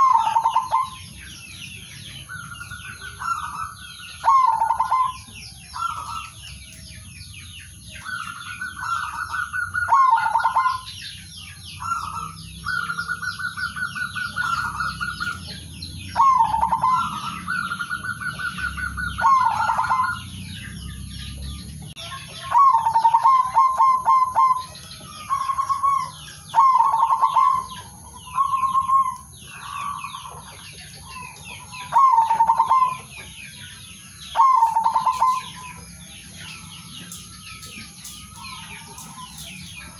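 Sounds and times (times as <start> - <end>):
dove cooing: 0.0 - 6.6, 7.8 - 11.2, 11.8 - 20.9, 22.4 - 39.9
small birds chirping faintly: 0.0 - 39.9.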